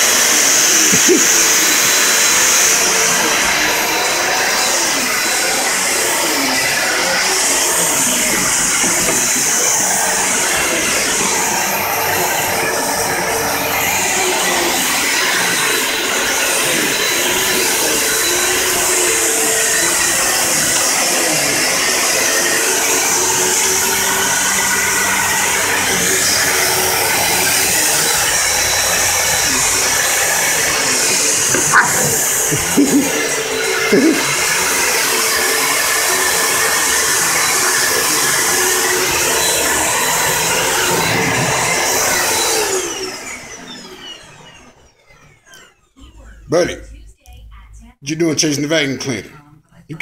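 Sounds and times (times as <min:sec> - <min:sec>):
vacuum cleaner running: 0:00.0 - 0:47.4.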